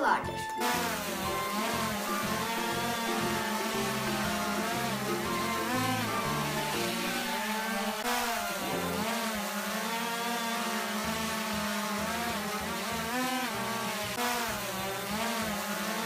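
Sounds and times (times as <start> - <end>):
drone propellers buzzing: 0.6 - 16.0.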